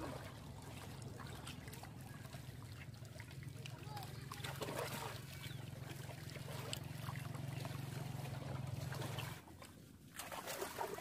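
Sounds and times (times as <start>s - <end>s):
low hum: 0.0s - 10.0s
muddy water sloshing: 0.0s - 11.0s
small splashes: 0.0s - 11.0s.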